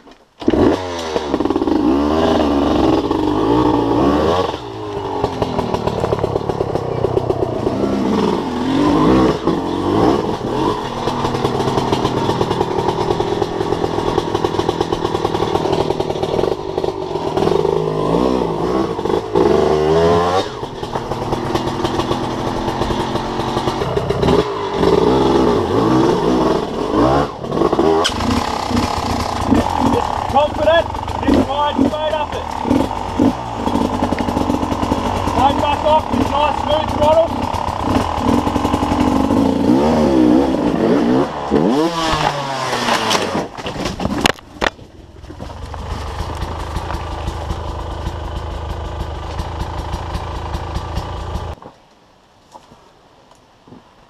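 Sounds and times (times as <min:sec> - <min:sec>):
dirt bike engine revving: 0:00.4 - 0:44.4, 0:45.2 - 0:51.6.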